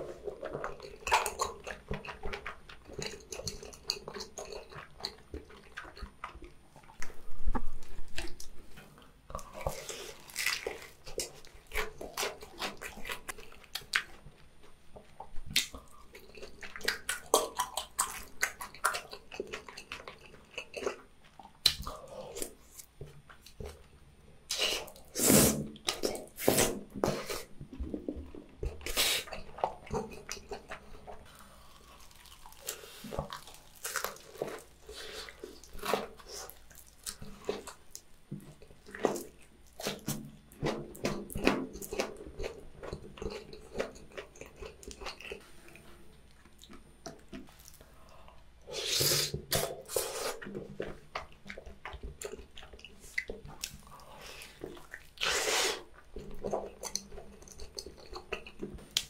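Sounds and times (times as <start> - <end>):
wet chewing and crunching: 0.0 - 59.0.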